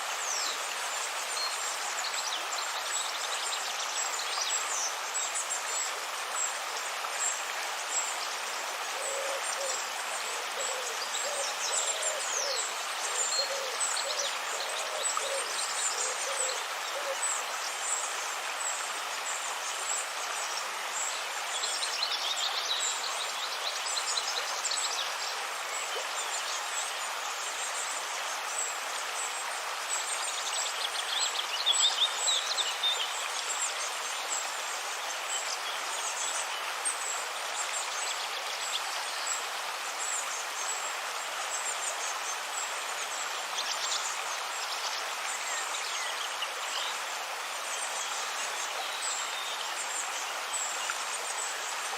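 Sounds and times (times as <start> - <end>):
river water flowing: 0.0 - 51.9.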